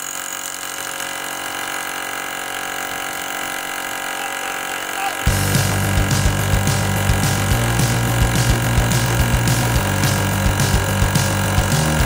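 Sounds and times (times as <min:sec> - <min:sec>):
rotary hammer drilling concrete: 0:00.0 - 0:12.0.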